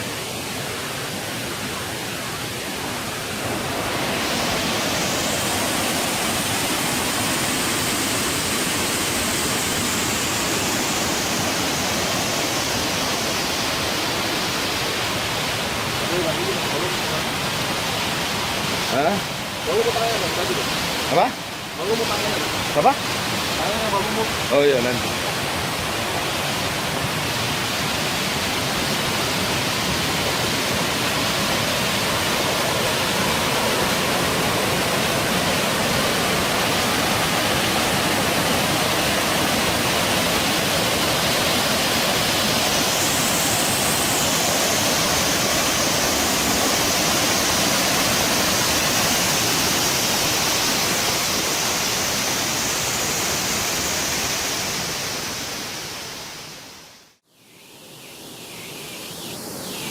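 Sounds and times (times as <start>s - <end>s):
waterfall rushing: 0.0s - 57.2s
high hiss: 0.0s - 59.9s.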